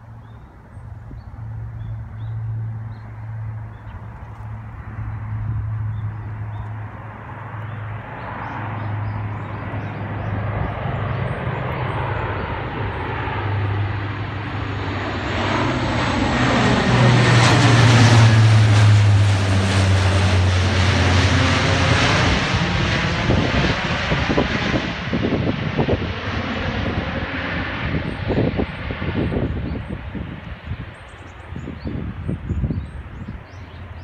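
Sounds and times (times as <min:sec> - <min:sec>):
propeller aircraft flying overhead: 0:00.0 - 0:34.0.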